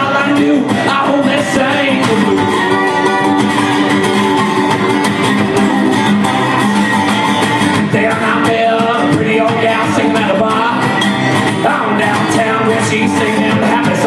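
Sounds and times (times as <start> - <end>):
man singing: 0.0 - 5.6, 7.7 - 14.0
acoustic guitar strumming: 0.0 - 14.0.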